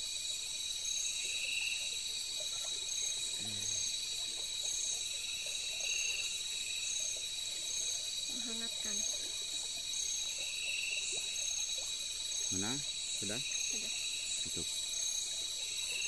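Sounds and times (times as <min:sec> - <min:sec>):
insects high-pitched trilling: 0:00.0 - 0:16.0
short insect chirp: 0:00.0 - 0:16.0.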